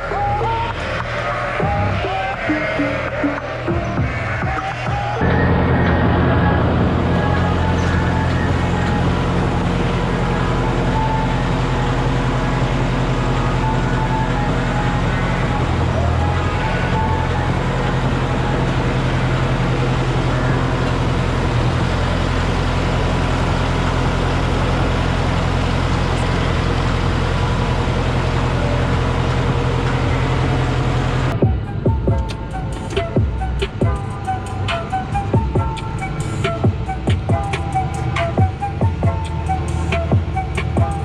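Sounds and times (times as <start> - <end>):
farm machine engine running: 0.0 - 41.0.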